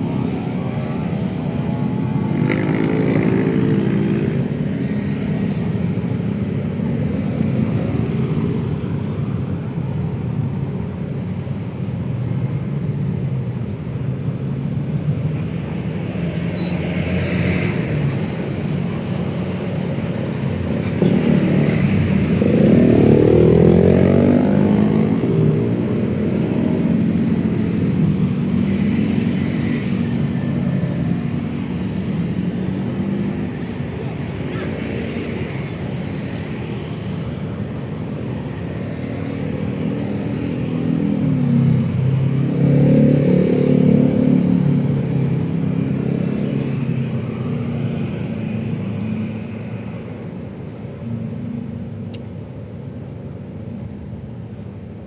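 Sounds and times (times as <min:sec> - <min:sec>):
city road traffic: 0:00.0 - 0:55.0.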